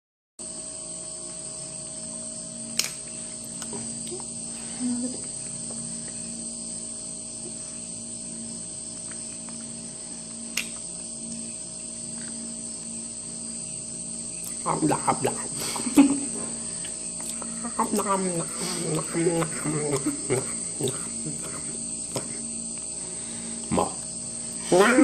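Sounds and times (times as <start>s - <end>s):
low hum: 0.4s - 25.0s
high-pitched drone: 0.8s - 25.0s.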